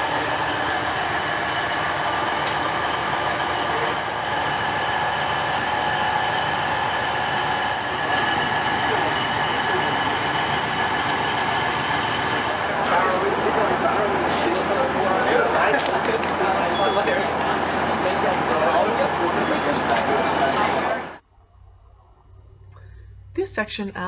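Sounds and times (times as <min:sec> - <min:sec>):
train running on rails: 0:00.0 - 0:21.2.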